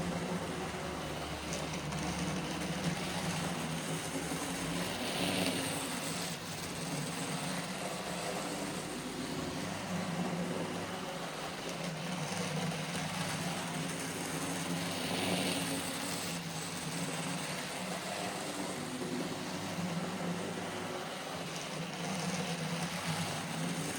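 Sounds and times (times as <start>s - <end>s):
model train motor humming: 0.0s - 23.9s.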